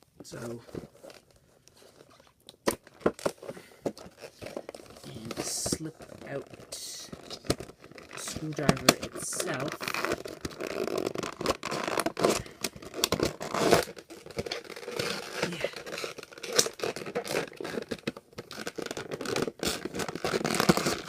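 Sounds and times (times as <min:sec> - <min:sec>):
plastic packaging crinkling: 0:00.3 - 0:21.0.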